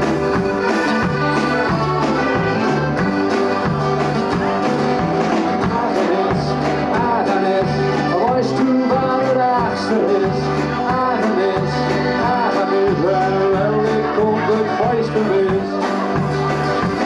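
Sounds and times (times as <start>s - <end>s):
bass line: 0.0s - 17.0s
lead melody with bending notes: 0.0s - 17.0s.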